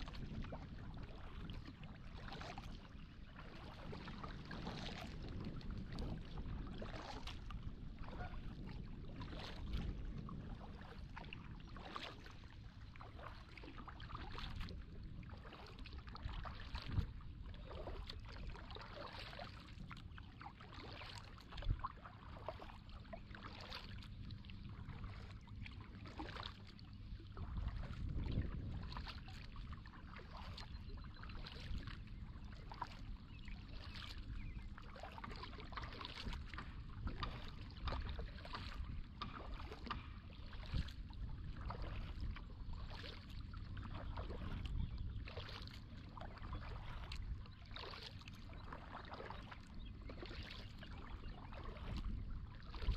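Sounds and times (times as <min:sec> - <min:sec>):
paddle strokes splashing: 0:00.0 - 0:52.9.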